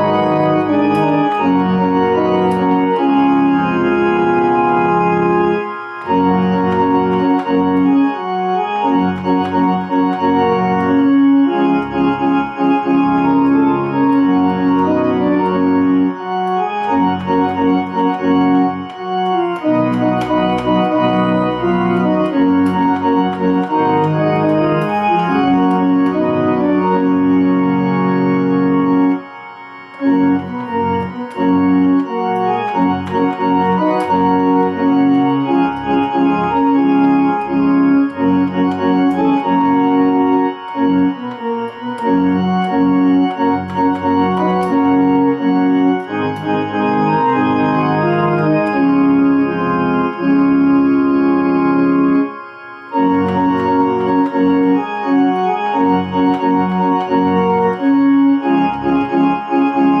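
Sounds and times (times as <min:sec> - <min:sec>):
electronic organ playing hymn: 0:00.0 - 1:00.0.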